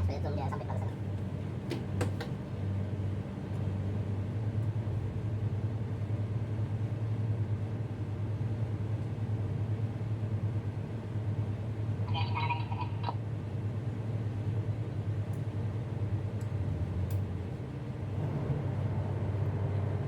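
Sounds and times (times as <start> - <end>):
diesel engines droning: 0.0 - 7.4, 10.0 - 20.0.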